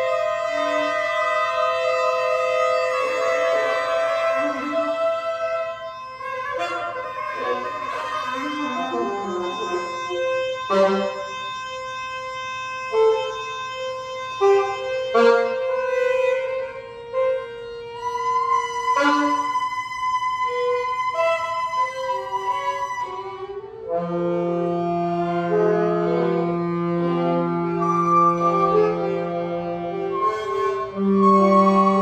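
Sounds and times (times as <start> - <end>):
saxophones and violin improvising: 0.0 - 32.0.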